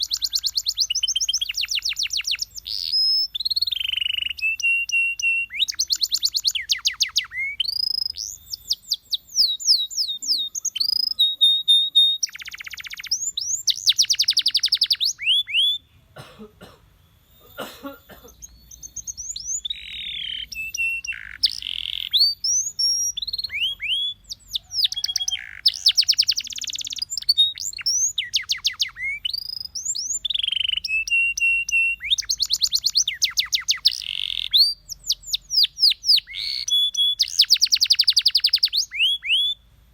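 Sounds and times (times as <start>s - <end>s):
canary singing: 0.0s - 16.1s, 16.8s - 39.8s.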